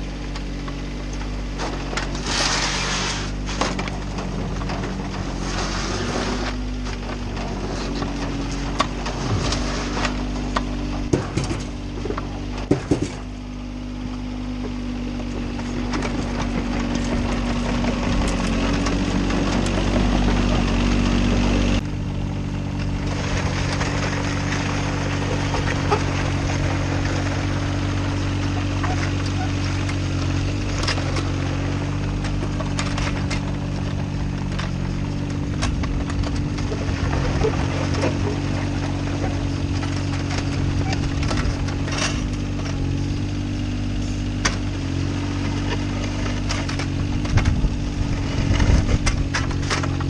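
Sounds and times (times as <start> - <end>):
diesel engine running: 0.0 - 50.0
dozer blade pushing gravel: 0.0 - 50.0
stones knocking and scraping: 0.3 - 13.4, 14.2 - 22.0, 22.6 - 50.0.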